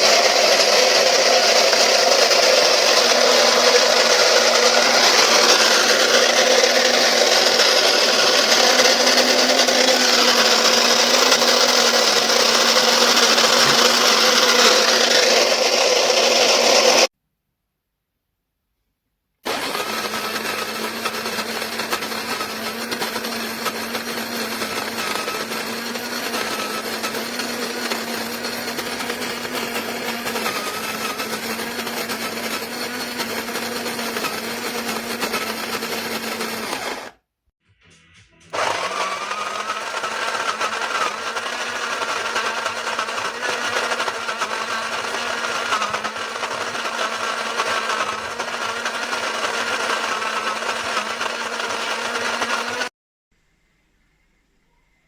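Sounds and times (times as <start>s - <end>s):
electric coffee grinder grinding: 0.0s - 17.1s, 19.5s - 37.2s, 38.5s - 52.9s.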